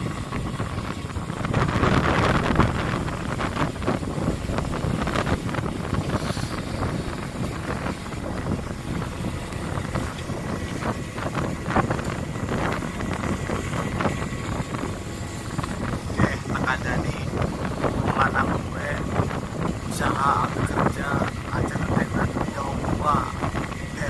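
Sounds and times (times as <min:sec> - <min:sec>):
boat engine rumble: 0:00.0 - 0:24.0
wind buffeting microphone: 0:00.0 - 0:24.0.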